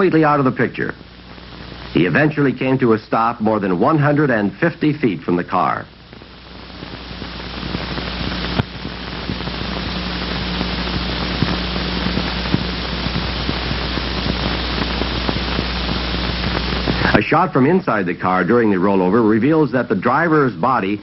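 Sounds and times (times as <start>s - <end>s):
film soundtrack hiss and hum: 0.0s - 21.0s.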